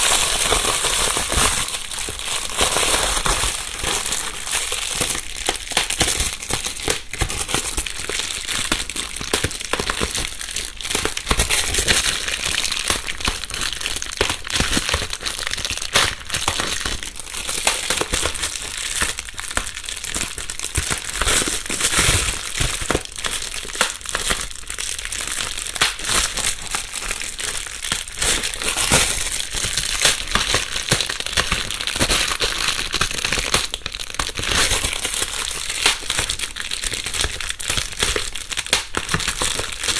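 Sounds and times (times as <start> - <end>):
bubble wrap popping: 0.0 - 39.9.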